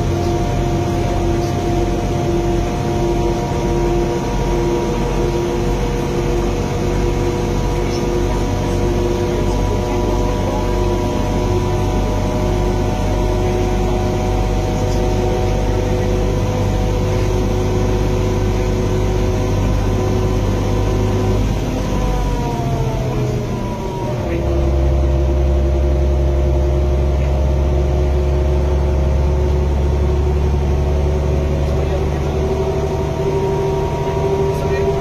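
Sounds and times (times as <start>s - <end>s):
bus engine rumbling: 0.0s - 35.0s
drivetrain whine: 0.0s - 35.0s.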